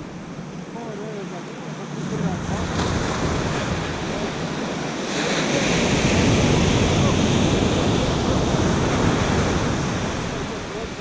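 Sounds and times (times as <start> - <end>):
ocean wave breaking on sand: 0.0 - 11.0.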